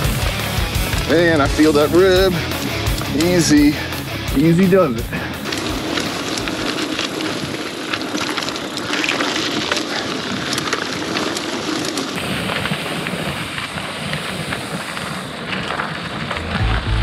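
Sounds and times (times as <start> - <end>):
bike frame and chain rattling: 0.0 - 16.8
bike tyres crunching on dirt: 0.0 - 17.0.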